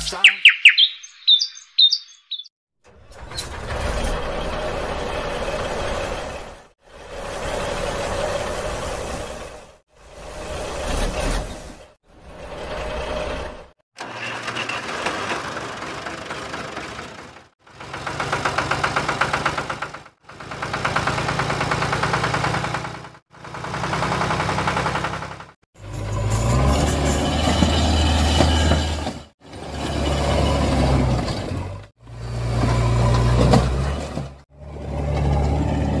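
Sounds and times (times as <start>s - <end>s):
tractor engine: 2.8s - 36.0s.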